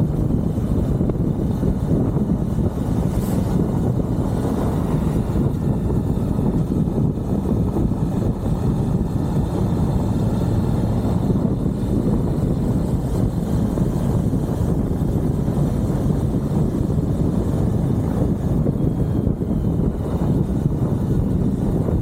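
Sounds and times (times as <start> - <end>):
motorcycle engine running: 0.0 - 22.0
wind rush: 0.0 - 22.0.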